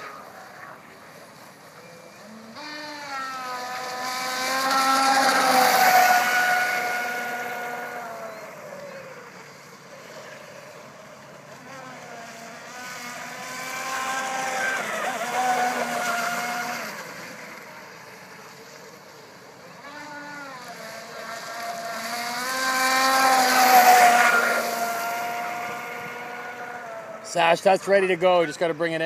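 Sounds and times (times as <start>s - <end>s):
model speedboat motor whining: 0.0s - 27.6s.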